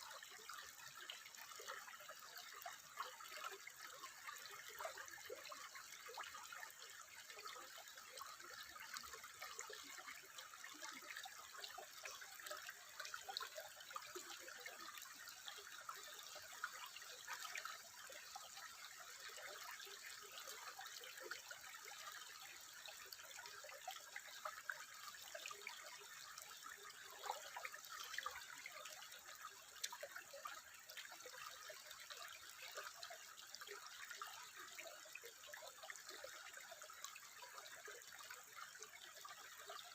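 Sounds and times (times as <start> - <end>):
faint trickling water: 0.0 - 39.9
water drips and splashes: 0.0 - 39.9.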